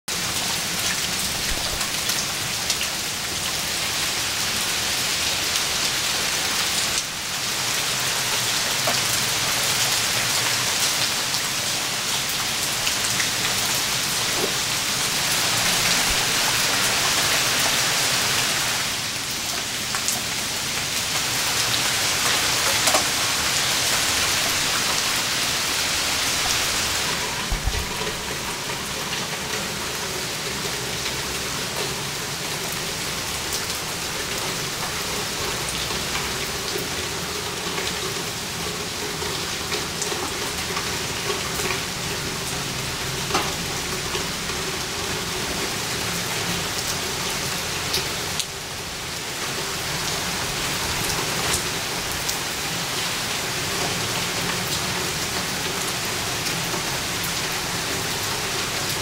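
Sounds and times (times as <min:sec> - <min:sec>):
rain splashing into puddles: 0:00.1 - 0:59.0.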